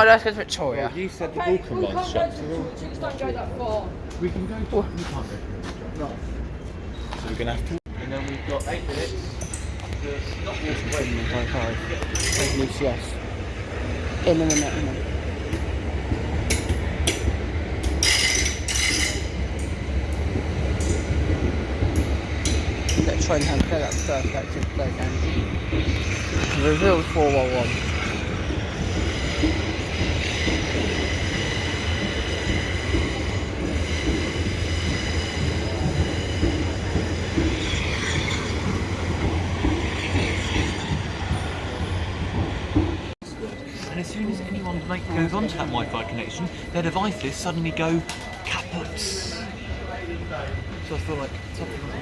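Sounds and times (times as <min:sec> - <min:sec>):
train low rumble: 0:00.0 - 0:52.0.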